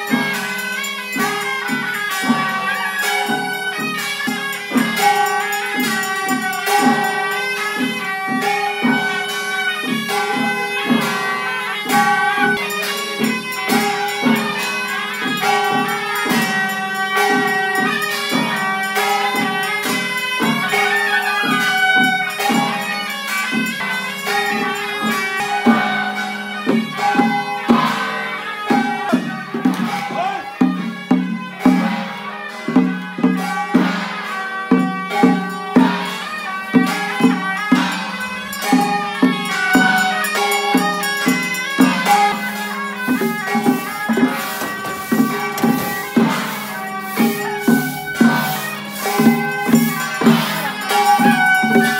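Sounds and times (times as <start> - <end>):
drums and cymbals: 0.0 - 51.9
reedy wind instrument melody: 0.0 - 51.9.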